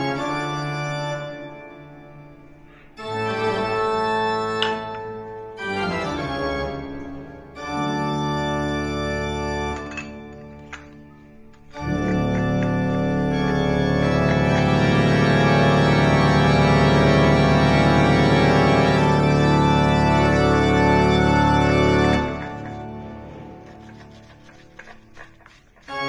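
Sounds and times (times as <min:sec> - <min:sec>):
organ-like chords music: 0:00.0 - 0:24.3.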